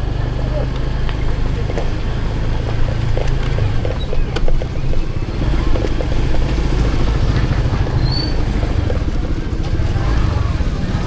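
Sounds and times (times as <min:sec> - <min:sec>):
road noise: 0:00.0 - 0:11.0
vehicle engine low rumble: 0:00.0 - 0:11.0.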